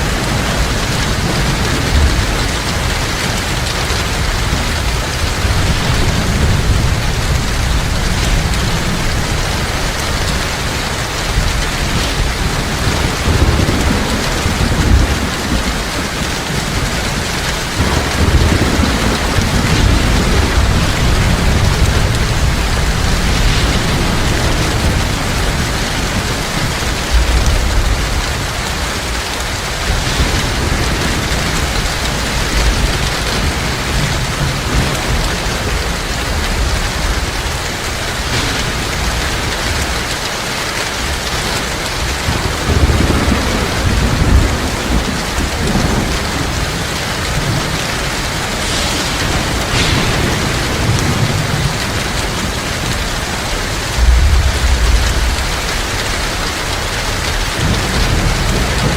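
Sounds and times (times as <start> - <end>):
deep thunder rumbles: 0.0 - 58.9
heavy rain pouring: 0.0 - 58.9.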